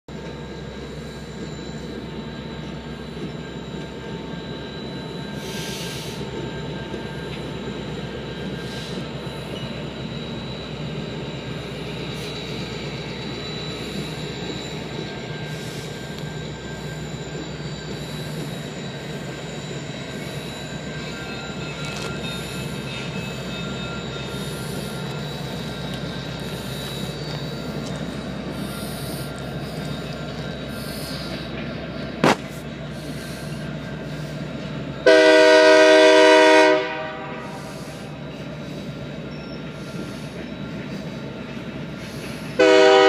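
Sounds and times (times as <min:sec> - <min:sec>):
diesel locomotives rumbling: 0:00.1 - 0:43.0
train wheels squealing: 0:00.1 - 0:43.0.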